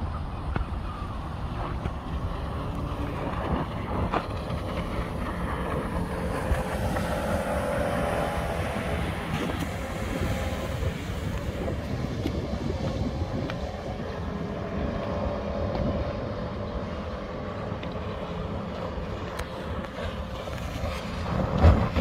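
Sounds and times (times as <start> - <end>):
boat engine running at speed: 0.0 - 22.0
choppy water: 0.0 - 22.0
wind on microphone: 0.0 - 22.0.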